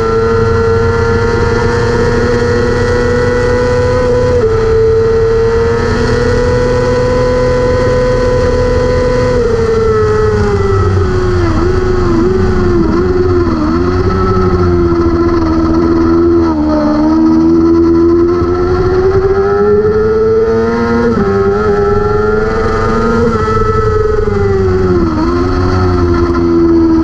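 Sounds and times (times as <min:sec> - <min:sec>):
race motorcycle engine revving: 0:00.0 - 0:27.0.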